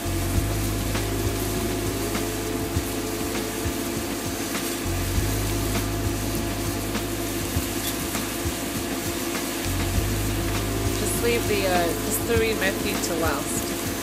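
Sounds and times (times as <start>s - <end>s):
gravy frying in oil: 0.0s - 14.0s
steady low hum: 0.0s - 14.0s.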